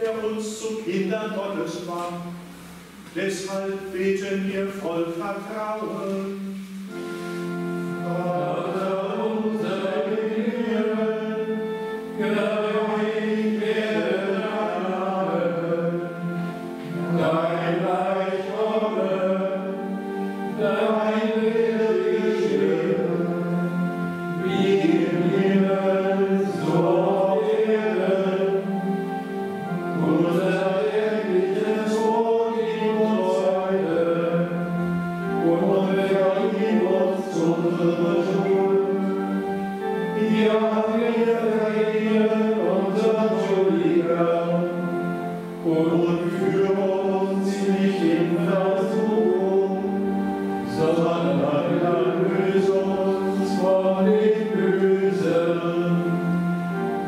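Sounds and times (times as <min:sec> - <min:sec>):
chant sung in phrases: 0:03.1 - 0:57.0.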